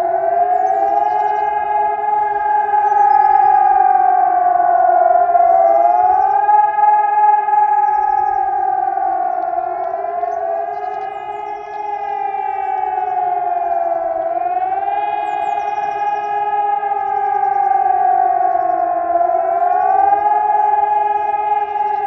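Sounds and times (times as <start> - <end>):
civil defence sirens wailing: 0.0 - 22.0.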